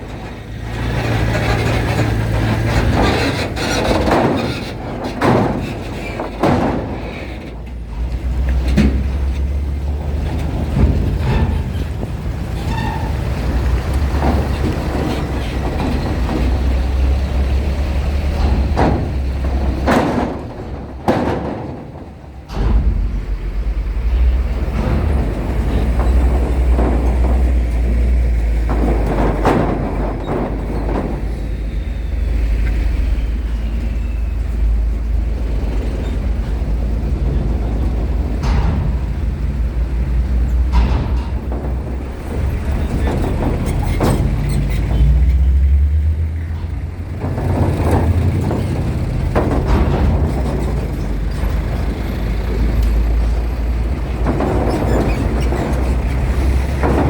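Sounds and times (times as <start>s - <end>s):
heavy vehicles rumbling: 0.0s - 57.0s
sharp knocks: 0.2s - 12.8s, 13.5s - 31.8s, 37.0s - 57.0s.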